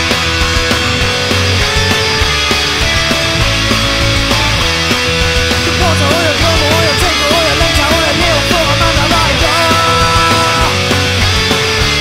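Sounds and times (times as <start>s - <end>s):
punk rock band playing: 0.0s - 12.0s
wavering high lead guitar melody: 0.0s - 12.0s.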